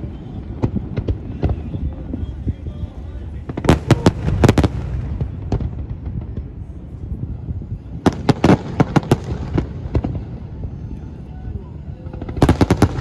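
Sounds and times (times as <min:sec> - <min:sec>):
fireworks bangs: 0:00.0 - 0:13.0
steady low rumble: 0:00.0 - 0:13.0.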